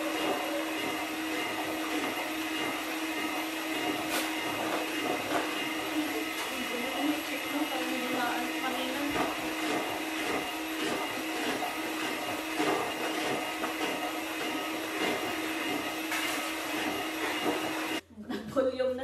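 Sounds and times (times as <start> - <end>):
electric hand mixer whipping: 0.0 - 18.0.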